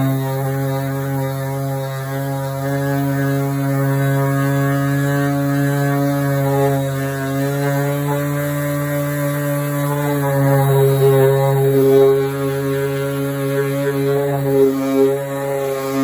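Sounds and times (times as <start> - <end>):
power sander humming: 0.0 - 16.0.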